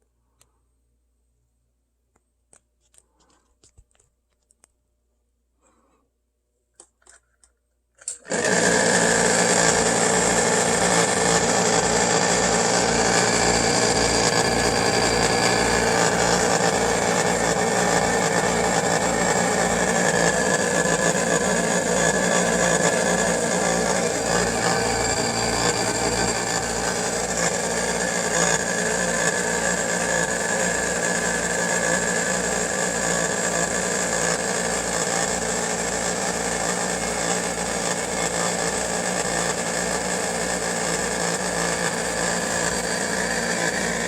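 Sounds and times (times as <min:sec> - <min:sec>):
air compressor running: 0:08.0 - 0:44.0.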